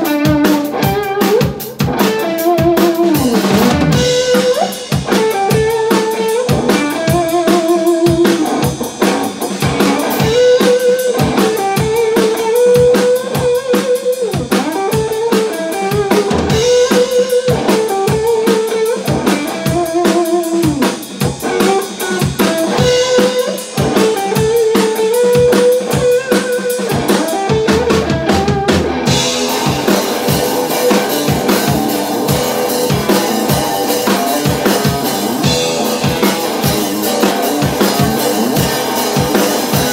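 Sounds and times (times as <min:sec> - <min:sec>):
drum kit beat: 0:00.0 - 0:39.9
electric guitar blues lead: 0:00.0 - 0:39.9.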